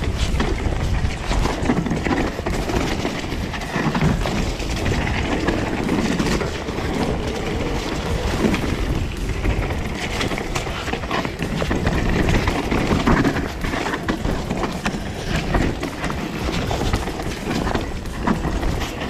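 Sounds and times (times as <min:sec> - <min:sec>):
bike rattling over rough ground: 0:00.0 - 0:19.0
wind buffeting microphone: 0:00.0 - 0:19.0.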